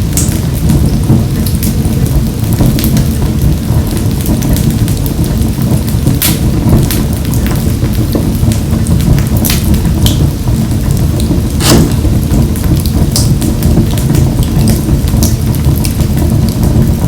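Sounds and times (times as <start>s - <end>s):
fire crackles and pops: 0.0s - 17.0s
wood stove fire roaring: 0.0s - 17.0s.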